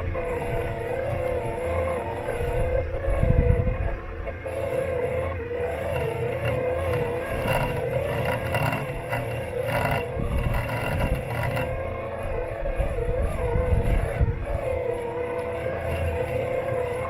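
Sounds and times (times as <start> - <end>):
low rumble: 0.0 - 17.0
robot lawn mower motors whining: 0.0 - 17.0.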